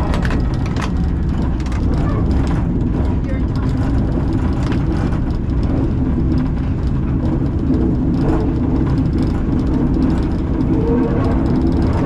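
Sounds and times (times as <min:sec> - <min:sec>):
tram rattle: 0:00.0 - 0:12.0
tram wheels rumbling on rails: 0:00.0 - 0:12.0.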